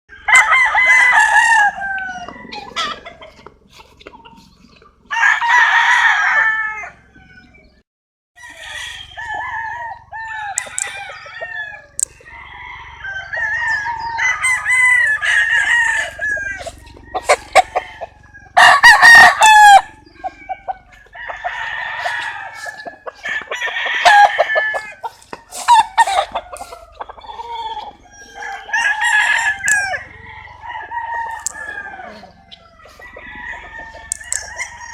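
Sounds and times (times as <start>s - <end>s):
hens clucking and cackling: 0.1s - 7.8s, 8.4s - 34.9s
roosters crowing: 0.1s - 7.8s, 8.4s - 34.9s.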